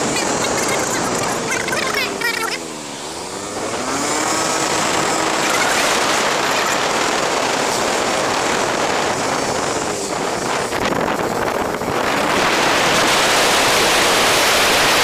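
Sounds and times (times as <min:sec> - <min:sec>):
motorcycle engine: 0:00.0 - 0:15.0
wind buffeting microphone: 0:00.0 - 0:15.0.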